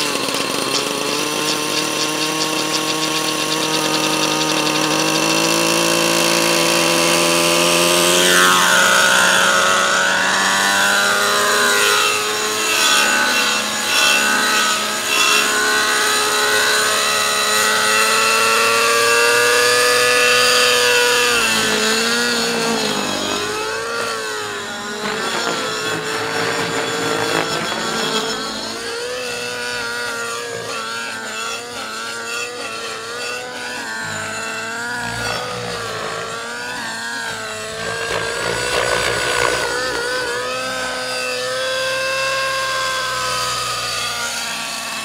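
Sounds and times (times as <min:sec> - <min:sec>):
model helicopter engine and rotor: 0:00.0 - 0:45.0.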